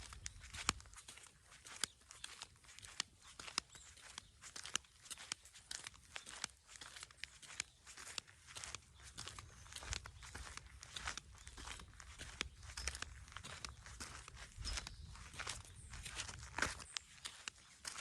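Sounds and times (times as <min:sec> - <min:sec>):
footsteps crunching on dry ground: 0:00.0 - 0:18.0.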